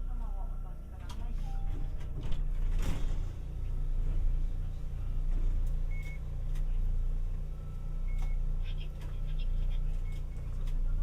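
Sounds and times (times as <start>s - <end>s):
rumble of motor and wheels on rail: 0.0s - 11.0s.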